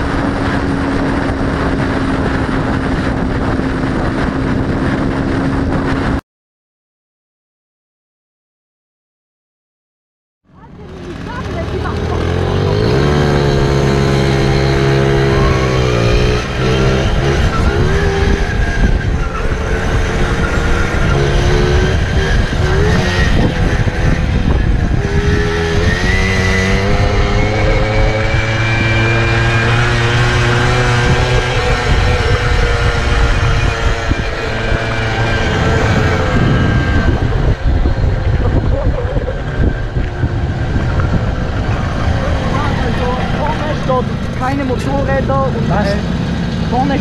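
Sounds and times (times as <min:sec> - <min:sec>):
moped engines revving: 0:00.0 - 0:06.2, 0:10.5 - 0:47.0
wind rushing over microphone: 0:00.0 - 0:06.2, 0:10.6 - 0:47.0.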